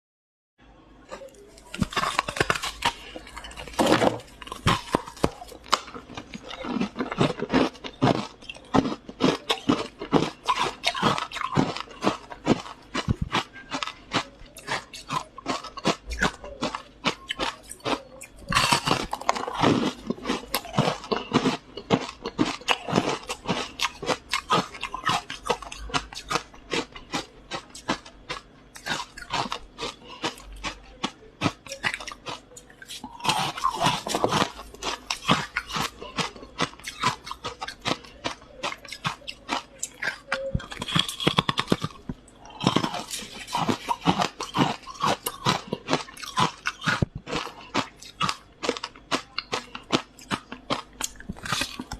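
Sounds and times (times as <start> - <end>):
crunching and chewing ice: 1.0 - 51.9.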